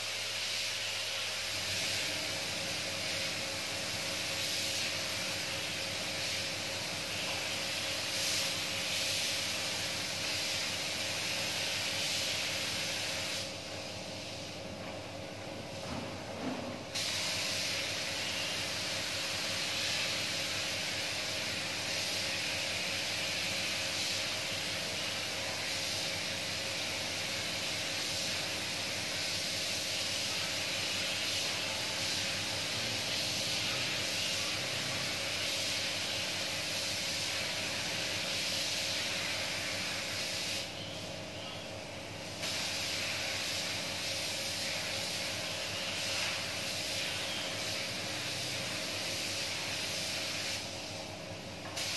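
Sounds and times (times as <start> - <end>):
paint spray gun hissing: 0.0 - 14.7, 16.9 - 41.0, 41.8 - 51.9.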